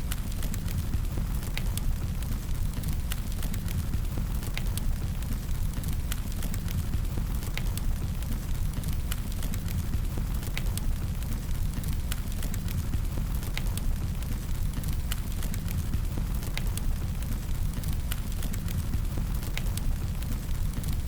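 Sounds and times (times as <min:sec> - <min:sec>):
fire crackling and popping: 0:00.0 - 0:21.0
low fire rumble: 0:00.0 - 0:21.0.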